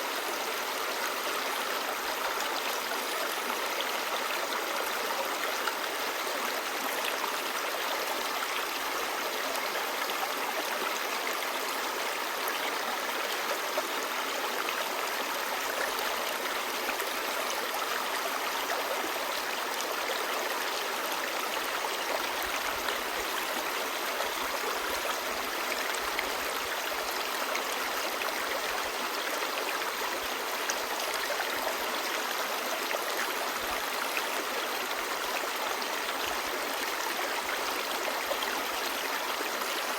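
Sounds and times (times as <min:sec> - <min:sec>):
stream babbling over stones: 0:00.1 - 0:39.9.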